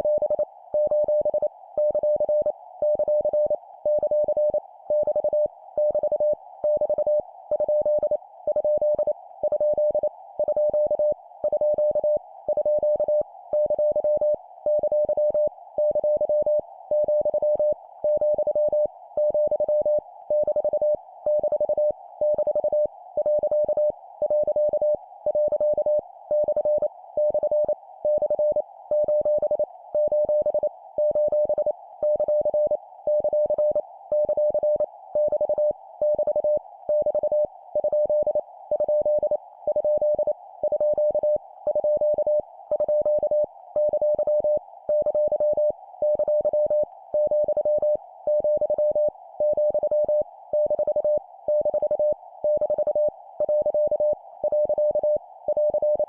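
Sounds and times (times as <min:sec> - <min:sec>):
morse code beeps: 0:00.1 - 0:56.0.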